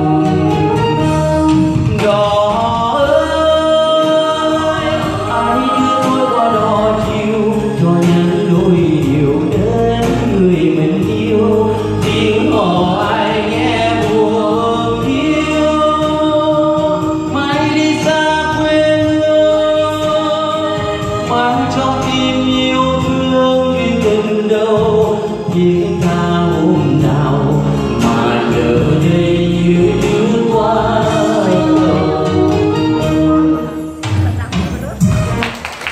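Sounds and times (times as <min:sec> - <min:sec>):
man singing into microphone: 0:00.0 - 0:34.0
backing track music: 0:00.0 - 0:35.9.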